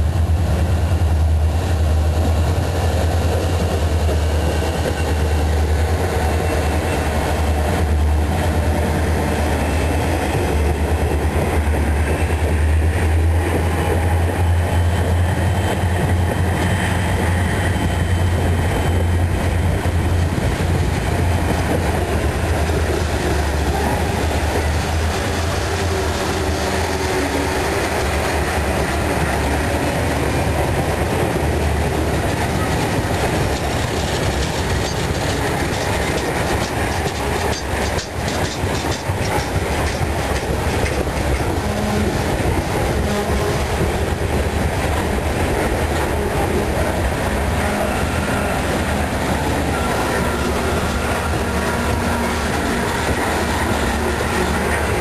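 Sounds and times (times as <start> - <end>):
freight train rumbling past: 0.0 - 55.0
wheels clacking over rail joints: 2.1 - 55.0.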